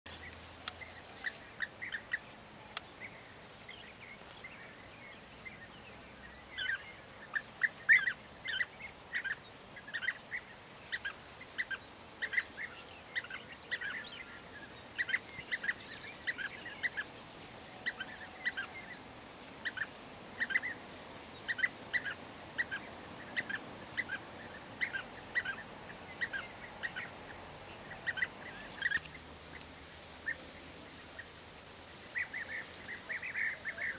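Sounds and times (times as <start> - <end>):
bird calling: 0.1 - 31.3, 32.1 - 33.9.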